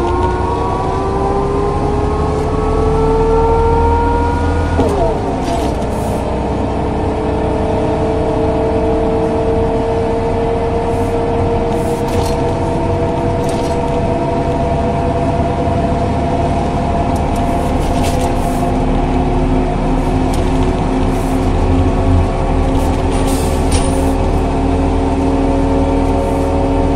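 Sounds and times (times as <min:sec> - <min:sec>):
gearbox whine: 0:00.0 - 0:07.4, 0:09.3 - 0:26.9
bus diesel engine rumbling: 0:00.0 - 0:26.9.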